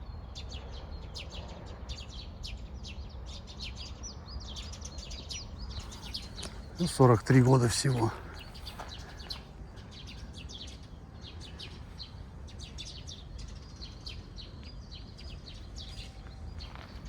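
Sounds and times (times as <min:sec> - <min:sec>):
low outdoor background rumble: 0:00.0 - 0:17.0
small birds chirping: 0:00.0 - 0:17.0.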